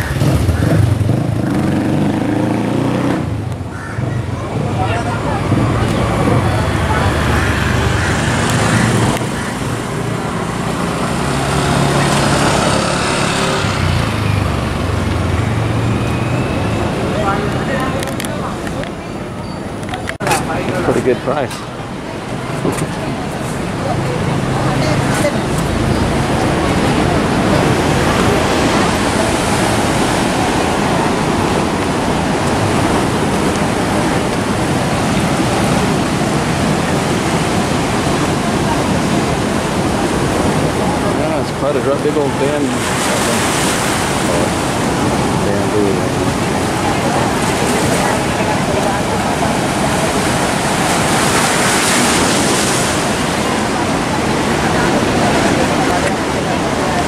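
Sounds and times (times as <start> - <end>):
street traffic: 0.0 - 57.0
surf washing over rocks: 0.0 - 57.0
wind: 0.0 - 57.0.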